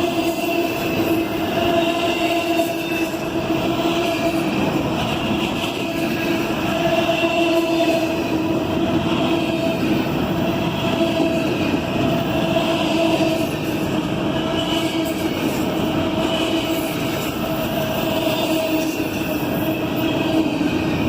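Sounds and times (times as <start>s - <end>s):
railcars rumbling on track: 0.0s - 21.0s.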